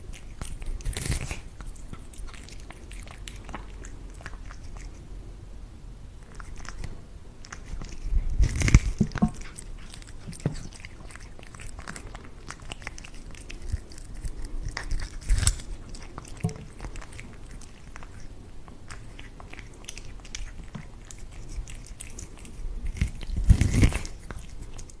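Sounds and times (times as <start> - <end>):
cat chewing corn crunching: 0.0 - 5.3, 6.2 - 25.0.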